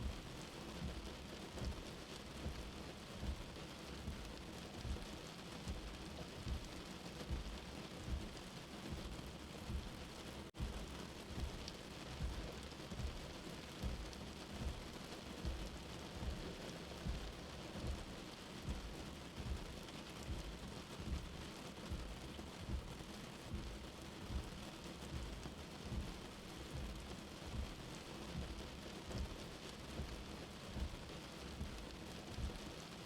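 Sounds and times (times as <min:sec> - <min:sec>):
low heartbeat thumping: 0:00.0 - 0:32.8
steady rain: 0:00.0 - 0:33.0.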